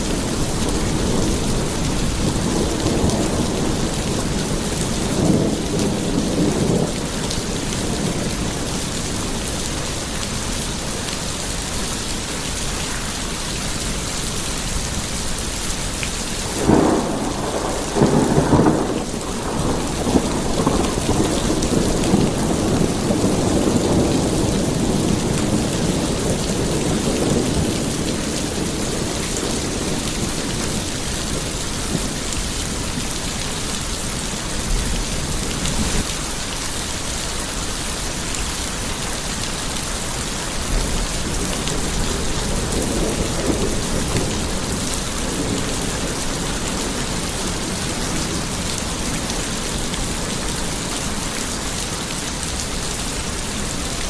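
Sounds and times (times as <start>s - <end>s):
thunder rumbling: 0.0s - 11.1s, 16.4s - 36.1s, 39.2s - 52.6s
steady rain: 0.0s - 54.0s.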